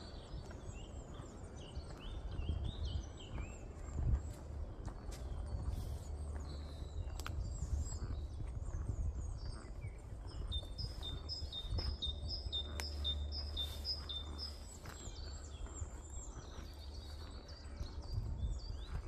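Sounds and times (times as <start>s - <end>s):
songbirds singing: 0.0s - 19.0s
steady low rumble: 0.0s - 19.0s.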